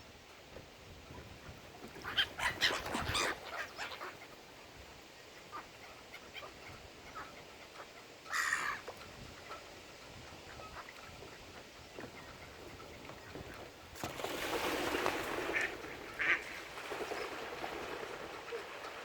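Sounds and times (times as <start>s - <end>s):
waterbirds calling: 1.0s - 19.0s.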